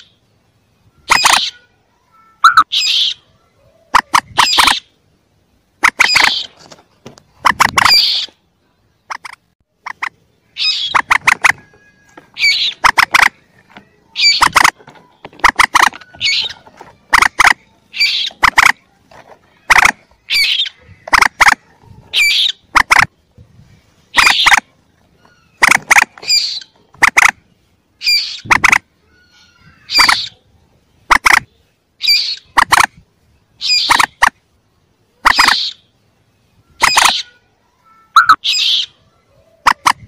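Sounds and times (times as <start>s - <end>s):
young moorhens squawking: 0.0s - 0.3s, 0.9s - 1.7s, 2.4s - 5.0s, 5.7s - 8.4s, 9.0s - 23.2s, 23.9s - 33.0s, 33.6s - 34.6s, 35.2s - 36.0s, 36.6s - 40.0s.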